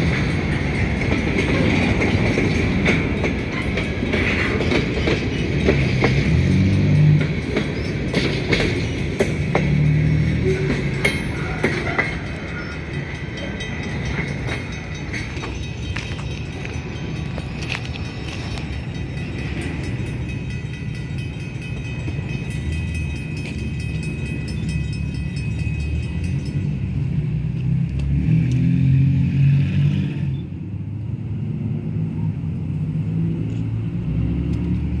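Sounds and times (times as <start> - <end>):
freight train rumble: 0.0 - 35.0
road traffic: 0.0 - 35.0.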